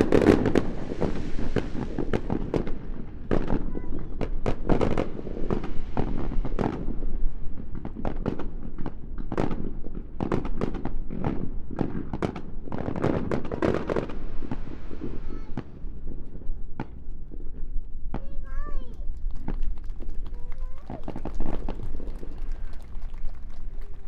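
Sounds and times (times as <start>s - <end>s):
fireworks bursting with bangs: 0.0s - 24.0s
fireworks crackling: 0.0s - 24.0s.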